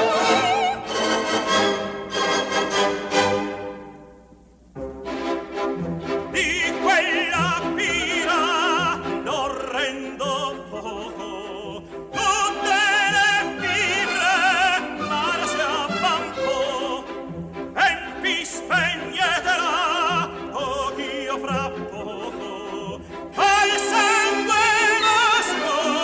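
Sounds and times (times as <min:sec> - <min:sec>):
operatic tenor singing: 0:00.0 - 0:03.0, 0:06.0 - 0:26.0
orchestra playing: 0:00.0 - 0:26.0.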